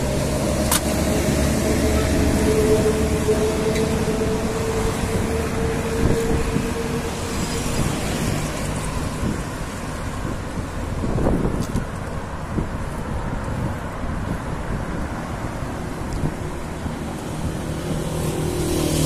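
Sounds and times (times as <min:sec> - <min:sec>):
vehicles going by: 0:00.0 - 0:19.0.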